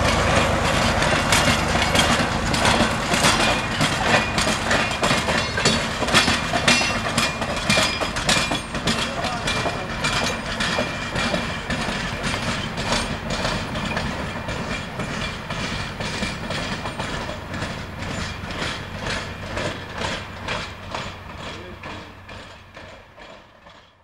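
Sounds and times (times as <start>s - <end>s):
low engine hum: 0.0s - 23.4s
train wheels clicking over rail joints: 0.0s - 24.0s.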